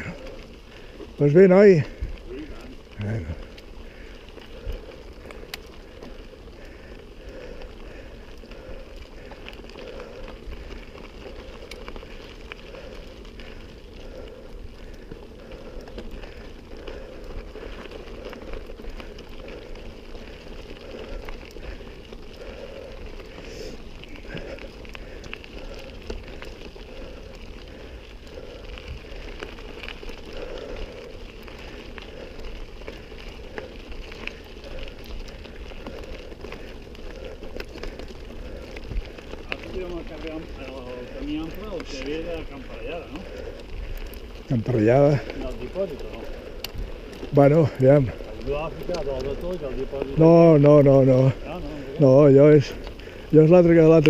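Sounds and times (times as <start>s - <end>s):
bike clicks and rattles: 0.0s - 54.0s
bike tyres crunching on gravel: 0.0s - 54.0s.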